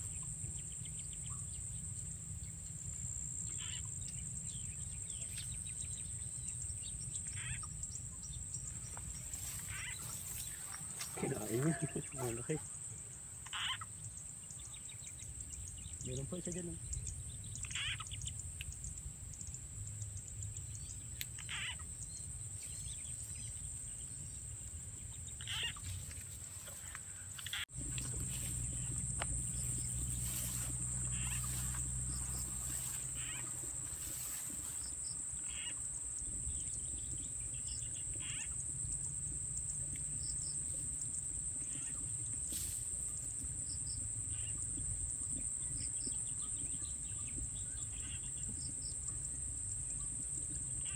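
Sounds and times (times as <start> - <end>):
high insect drone: 0.0 - 50.9.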